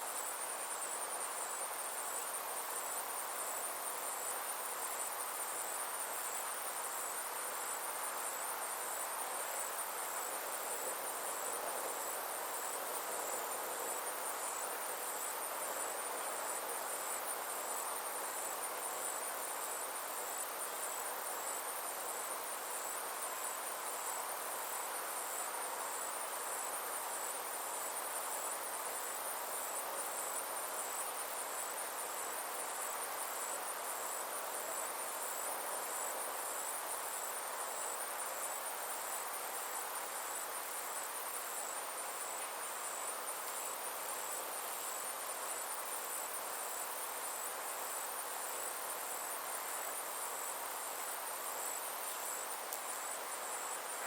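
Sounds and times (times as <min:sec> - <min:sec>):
insects trilling: 0:00.0 - 0:54.0
soft hiss: 0:00.0 - 0:54.0.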